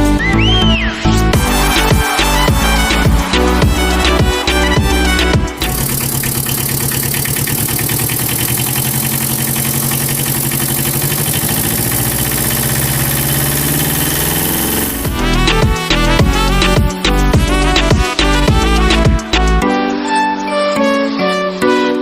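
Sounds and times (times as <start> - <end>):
background music: 0.0 - 22.0
small engine running: 1.4 - 19.2.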